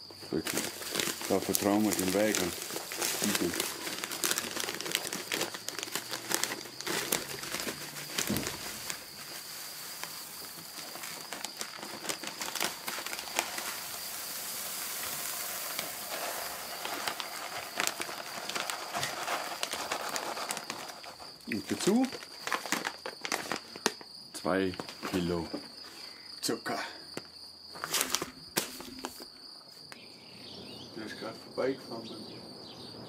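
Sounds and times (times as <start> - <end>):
grain bags rustling and crinkling: 0.0 - 26.3, 27.1 - 29.8.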